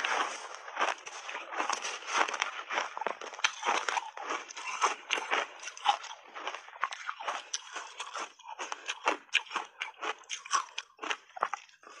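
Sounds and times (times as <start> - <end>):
chewing crunchy ice: 0.0 - 12.0.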